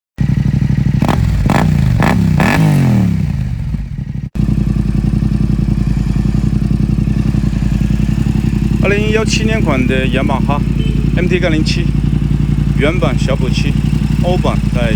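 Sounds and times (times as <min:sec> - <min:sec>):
motorcycle engine idling and revving: 0:00.2 - 0:14.9.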